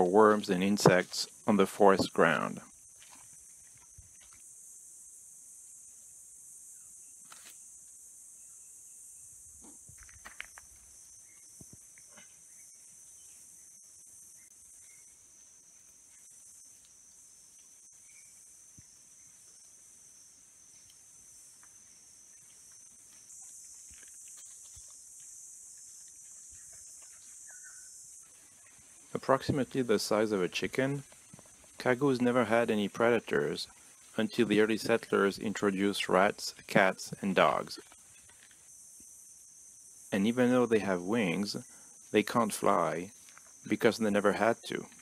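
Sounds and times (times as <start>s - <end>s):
forest insects chorus: 0.0s - 45.0s.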